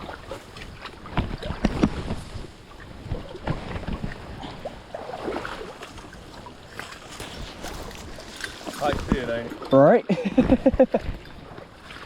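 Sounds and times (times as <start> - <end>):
wind rumbling on microphone: 0.0 - 9.6, 10.2 - 12.0
creek water running: 0.0 - 12.0.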